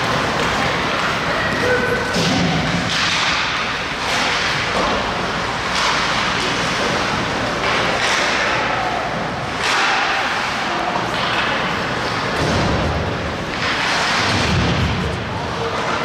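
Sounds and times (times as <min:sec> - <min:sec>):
knocks of sticks and puck: 0:00.0 - 0:16.0.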